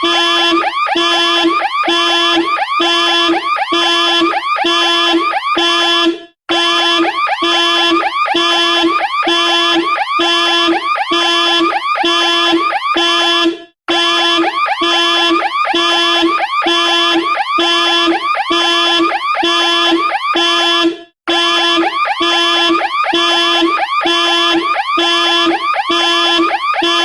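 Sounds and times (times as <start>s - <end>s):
car alarm siren: 0.0s - 27.0s.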